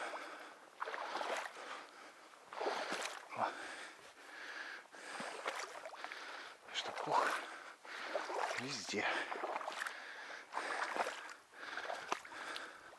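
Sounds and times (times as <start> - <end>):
boots wading through water: 0.0 - 12.9.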